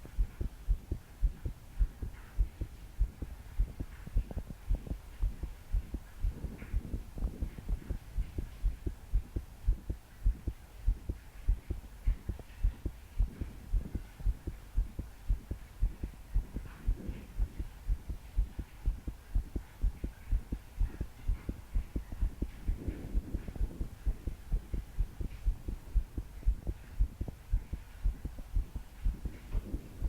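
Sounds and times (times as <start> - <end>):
fast pounding heartbeat: 0.0 - 30.0
soft breaths: 0.0 - 30.0.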